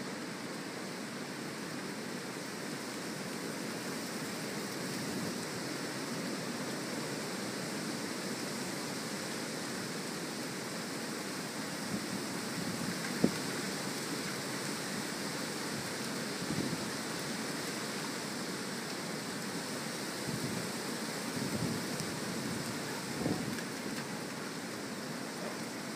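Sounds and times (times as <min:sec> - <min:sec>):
wind and rain rushing: 0:00.0 - 0:25.9.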